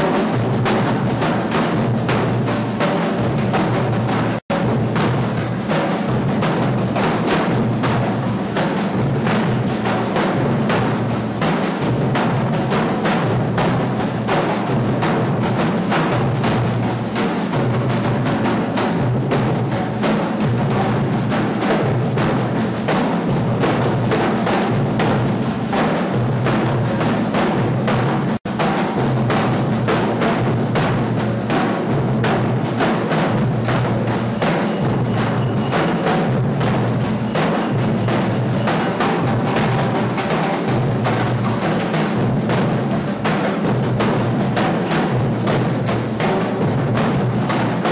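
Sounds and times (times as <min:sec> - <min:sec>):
drum ensemble playing: 0:00.0 - 0:47.9.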